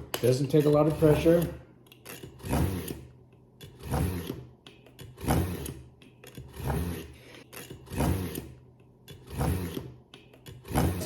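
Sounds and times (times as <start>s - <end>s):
knife scraping in sharpener: 0.5s - 11.0s.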